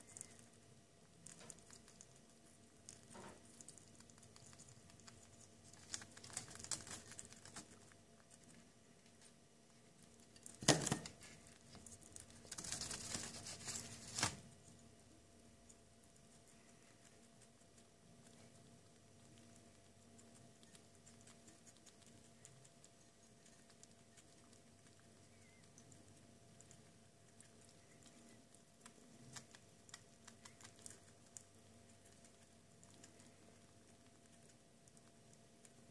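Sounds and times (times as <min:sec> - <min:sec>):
faint steady hum: 0:00.0 - 0:35.9
rats crunching food: 0:00.0 - 0:35.9.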